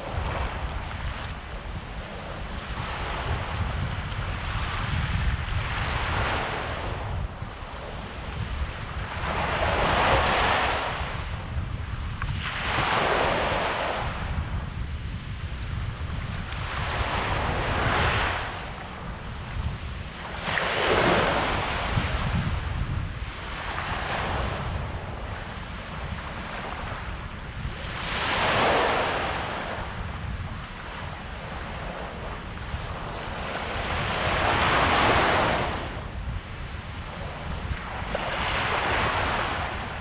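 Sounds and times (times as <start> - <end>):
waves washing up beach: 0.0 - 40.0.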